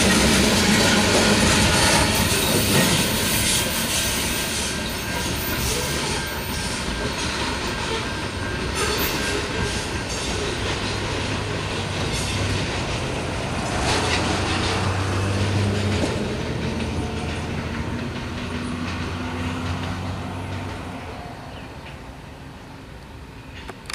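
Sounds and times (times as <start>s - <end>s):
train wheels rumbling on rail: 0.0s - 23.9s.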